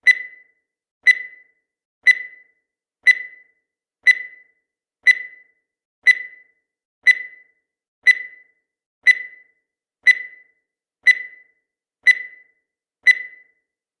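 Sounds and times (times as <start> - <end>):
timer beeps: 0.0 - 13.8.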